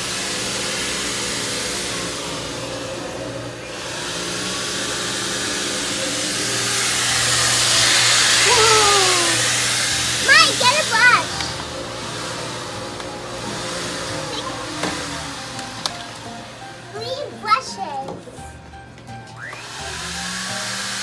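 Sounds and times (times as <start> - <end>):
air rushing from blower: 0.0 - 17.1.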